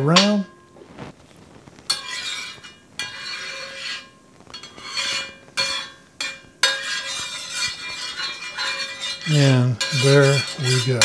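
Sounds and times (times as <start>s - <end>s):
metal spatula scraping pan: 1.9s - 11.0s.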